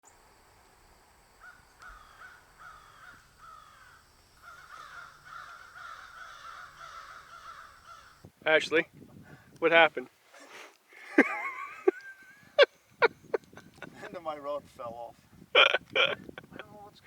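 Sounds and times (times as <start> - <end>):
birds calling: 1.4 - 8.8, 9.4 - 14.5, 15.6 - 17.0.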